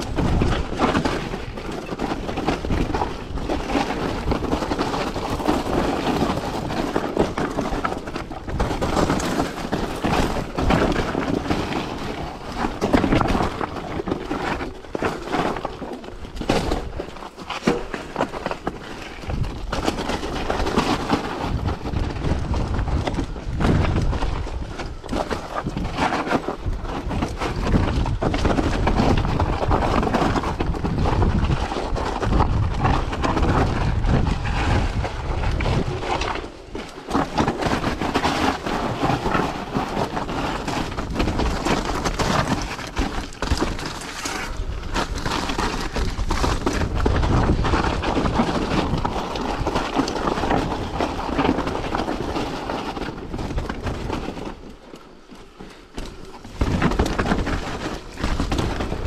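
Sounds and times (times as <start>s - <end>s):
wind buffeting microphone: 0.0s - 15.0s, 18.8s - 55.3s
tyres crunching over gravel: 0.0s - 59.0s.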